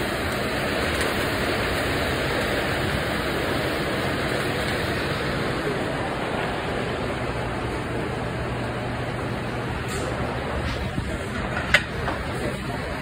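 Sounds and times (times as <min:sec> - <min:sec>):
exhaust hood ventilation: 0:00.0 - 0:13.0
gas burners running: 0:00.0 - 0:13.0.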